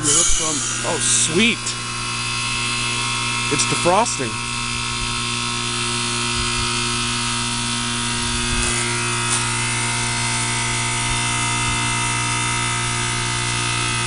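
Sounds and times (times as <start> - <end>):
compressor electric hum: 0.0 - 14.0
high whine: 0.0 - 14.0.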